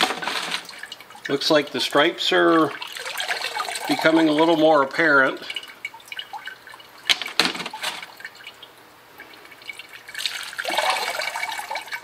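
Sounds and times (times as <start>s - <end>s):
water dripping: 0.6s - 7.2s, 8.0s - 12.0s.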